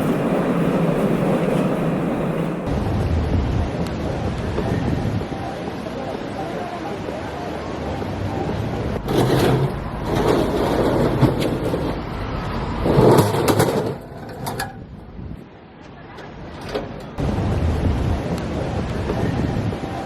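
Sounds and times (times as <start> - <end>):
background rumble: 0.0 - 15.8, 16.4 - 20.0.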